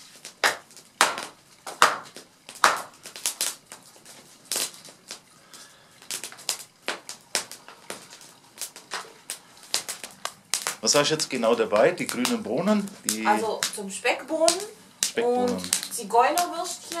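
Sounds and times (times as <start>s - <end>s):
sharp fire pops: 0.0s - 17.0s
wood fire crackling: 0.0s - 17.0s.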